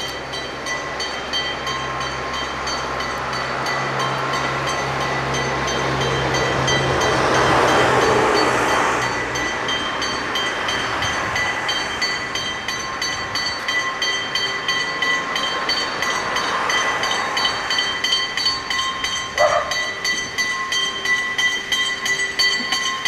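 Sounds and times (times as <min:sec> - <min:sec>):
steam locomotive exhaust beats: 0:00.0 - 0:23.0.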